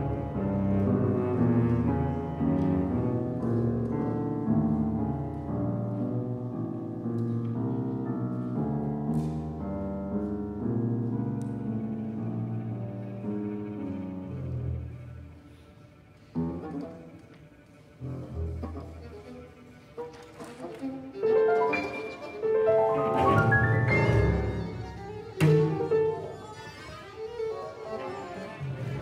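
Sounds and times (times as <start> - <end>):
bowed strings: 0.0 - 7.4, 10.2 - 29.0
piano: 0.0 - 29.0.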